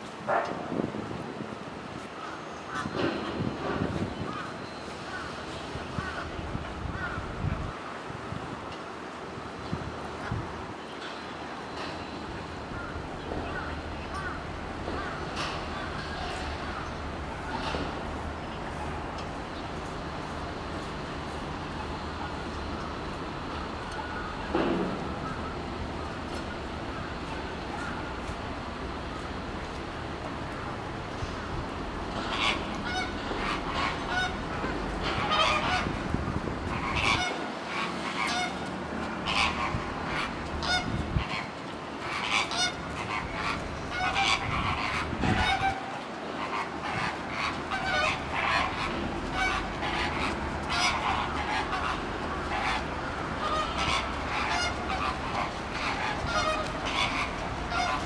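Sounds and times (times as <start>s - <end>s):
birds calling: 9.6s - 58.0s.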